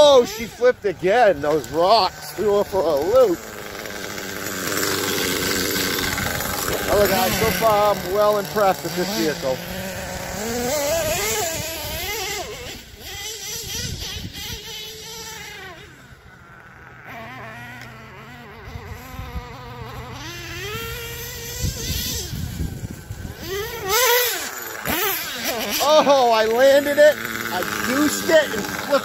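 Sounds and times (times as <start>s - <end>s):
rc truck engine buzzing: 0.0s - 29.0s.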